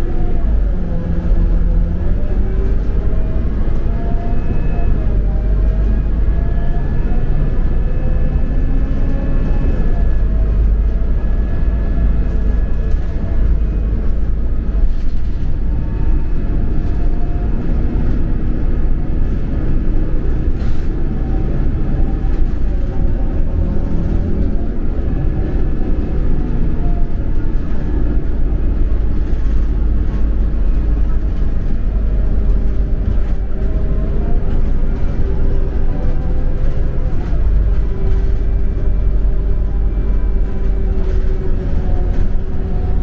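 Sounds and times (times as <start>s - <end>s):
bus engine and road rumble: 0.0s - 43.0s.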